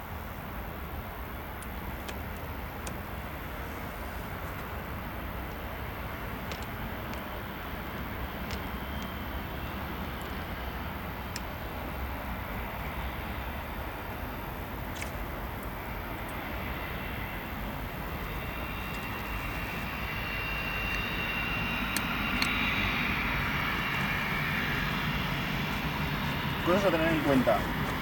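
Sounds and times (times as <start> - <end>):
high engine whine: 0.0 - 28.0
jet engines running: 0.0 - 28.0.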